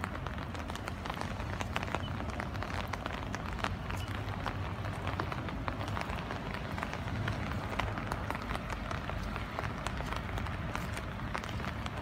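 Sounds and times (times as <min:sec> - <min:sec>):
rain drops hitting leaves: 0:00.0 - 0:12.0
soft rain hiss: 0:00.0 - 0:12.0.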